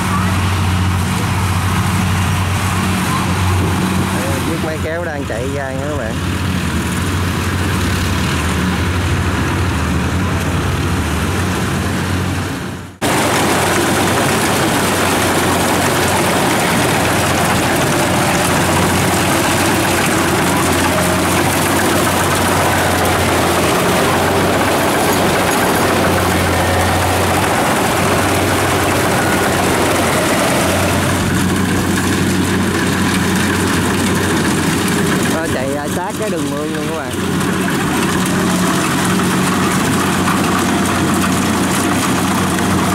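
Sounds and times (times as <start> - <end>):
combine harvester running: 0.0 - 42.9
tractor engine humming: 0.0 - 42.9.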